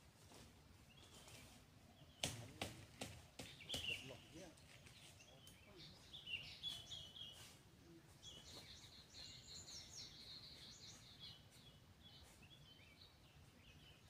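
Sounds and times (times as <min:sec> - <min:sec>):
small birds chirping and trilling: 0:00.2 - 0:14.0.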